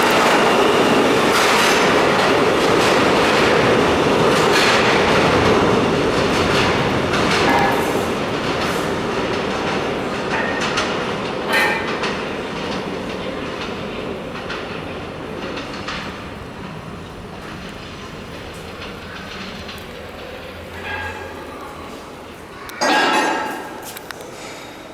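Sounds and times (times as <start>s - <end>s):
subway train wheels clattering: 0.0s - 24.9s.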